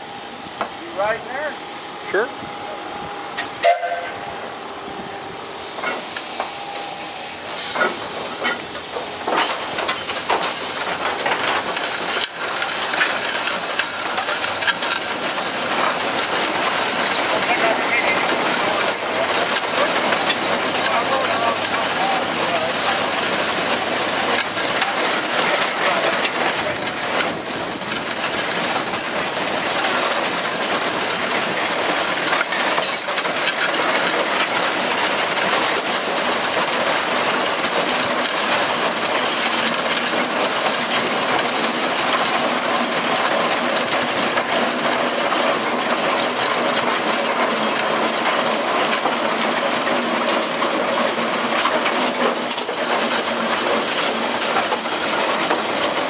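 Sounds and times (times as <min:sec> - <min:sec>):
steam traction engine clattering: 0:00.0 - 0:56.0.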